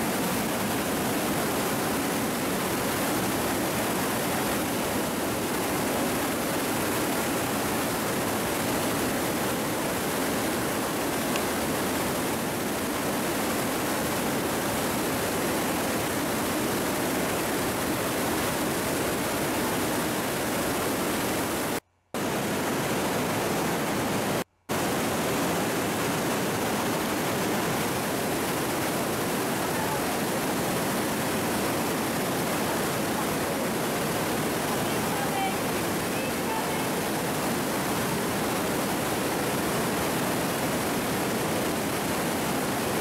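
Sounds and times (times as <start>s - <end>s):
river rushing through gorge: 0.0s - 43.0s.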